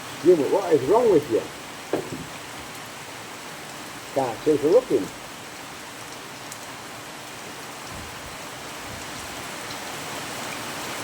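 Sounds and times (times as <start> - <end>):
rain on a roof: 0.0 - 11.0.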